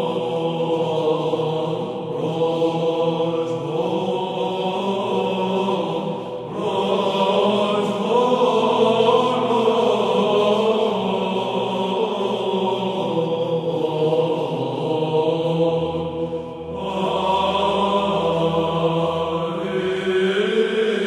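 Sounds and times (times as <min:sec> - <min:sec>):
choir chanting a slow hymn: 0:00.0 - 0:21.0
sung drone: 0:00.0 - 0:21.0.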